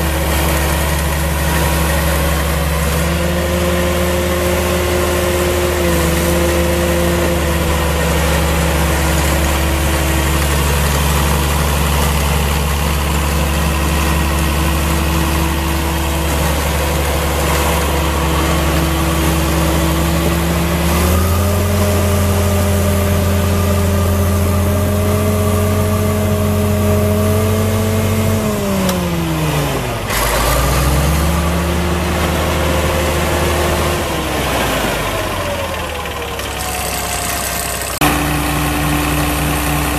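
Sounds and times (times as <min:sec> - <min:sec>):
crawler dozer diesel engine: 0:00.0 - 0:39.9.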